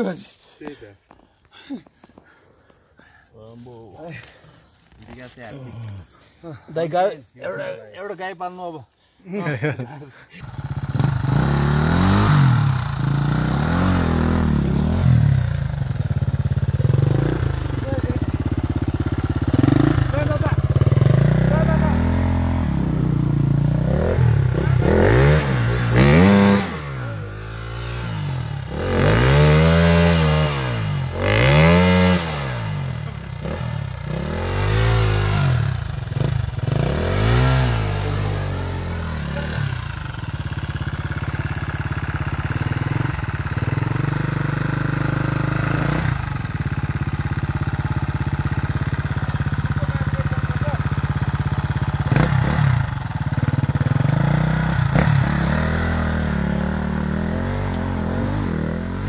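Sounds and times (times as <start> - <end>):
dirt bike engine revving and idling: 9.5 - 59.0.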